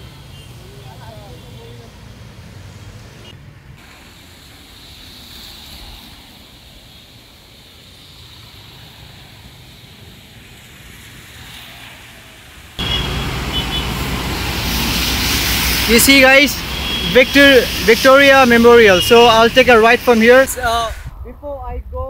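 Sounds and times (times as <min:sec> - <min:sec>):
traffic on wet road: 0:00.0 - 0:21.0.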